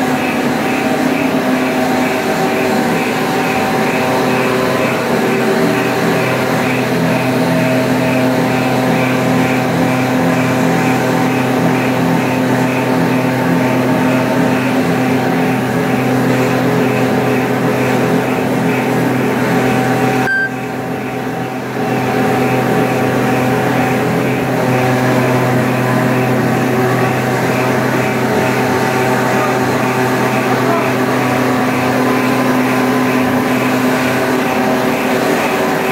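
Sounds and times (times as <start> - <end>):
extrusion machine drone: 0.0 - 35.9.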